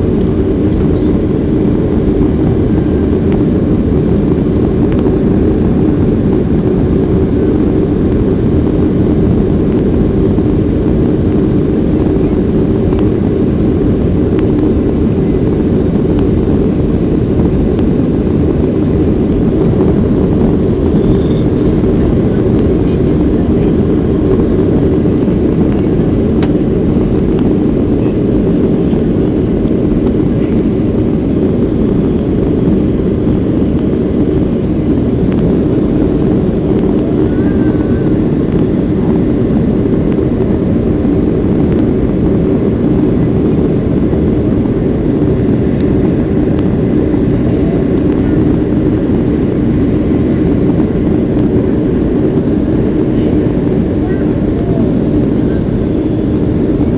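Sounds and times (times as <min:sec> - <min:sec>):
jet engines deep rumble: 0:00.0 - 0:56.9.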